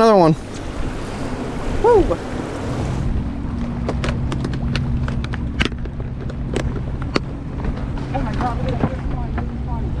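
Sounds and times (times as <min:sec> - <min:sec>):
boat motor idling: 0:00.0 - 0:10.0.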